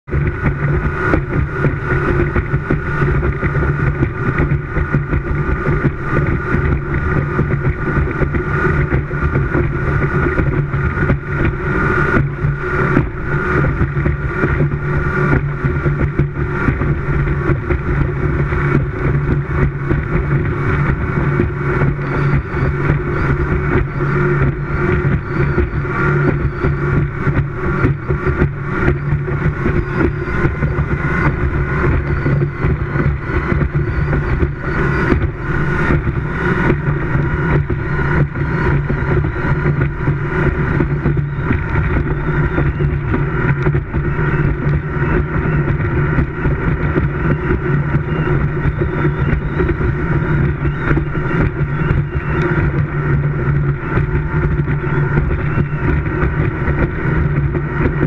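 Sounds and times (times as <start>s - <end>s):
speedboat engine running: 0.0s - 58.0s
wind buffeting microphone: 0.0s - 58.0s
hull thumping on water: 0.1s - 58.0s.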